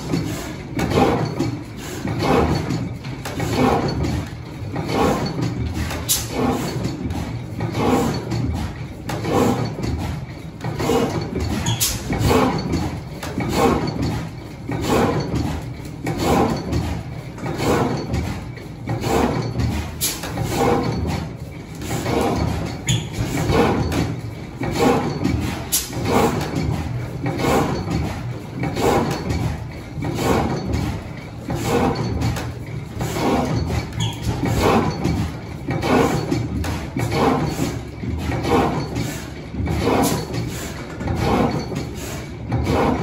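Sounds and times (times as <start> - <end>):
stationary gas engine running slowly: 0.0 - 43.0.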